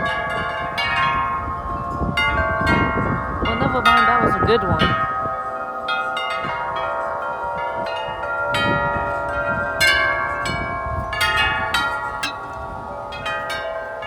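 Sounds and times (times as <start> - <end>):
low rumble of wind: 0.0 - 14.0
metal wind chimes ringing: 0.0 - 14.0.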